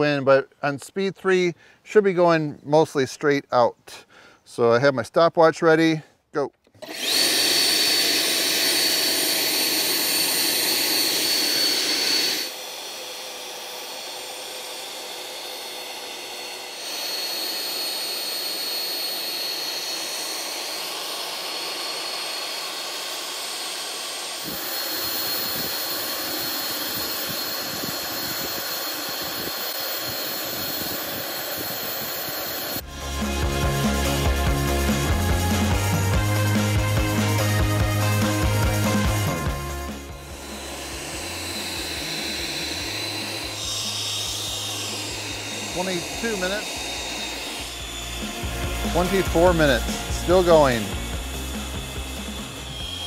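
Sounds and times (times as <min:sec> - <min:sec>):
leaf blower running: 0:06.7 - 0:53.0.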